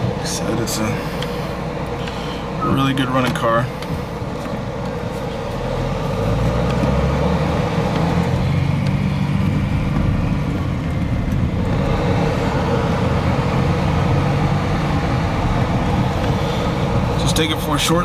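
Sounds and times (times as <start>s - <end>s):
car engine running: 0.0s - 18.0s
road noise: 0.0s - 18.0s.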